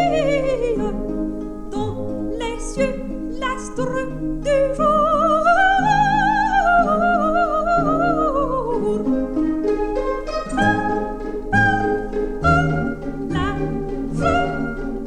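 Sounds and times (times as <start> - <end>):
orchestral accompaniment: 0.0 - 15.0
plucked strings: 0.0 - 15.0
soprano singing opera: 0.0 - 15.0.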